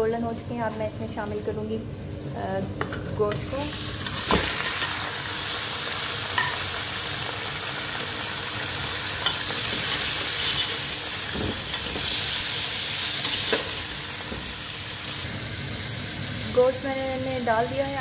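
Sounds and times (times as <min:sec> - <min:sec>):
meat sizzling in hot fat: 0:03.5 - 0:18.0.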